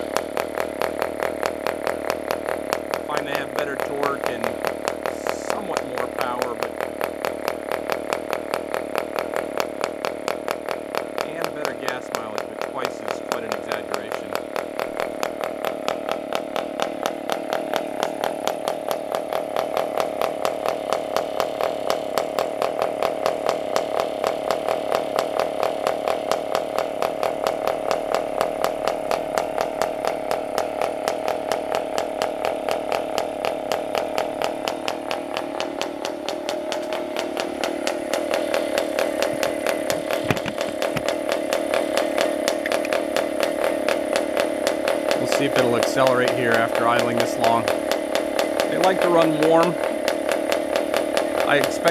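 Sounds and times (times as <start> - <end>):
model engine idling: 0.0 - 51.9.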